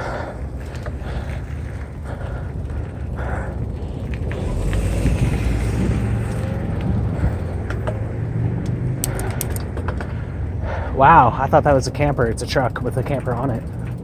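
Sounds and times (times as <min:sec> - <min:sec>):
truck engine and tyre rumble: 0:00.0 - 0:14.0.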